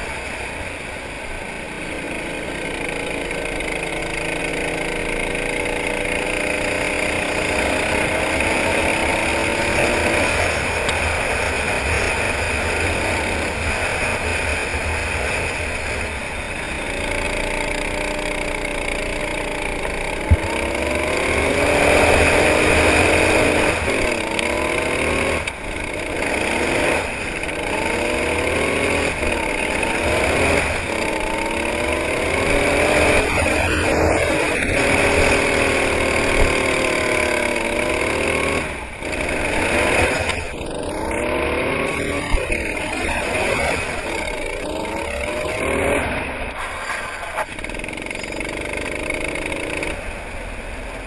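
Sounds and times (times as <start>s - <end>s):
kart engine accelerating: 0.0s - 51.0s.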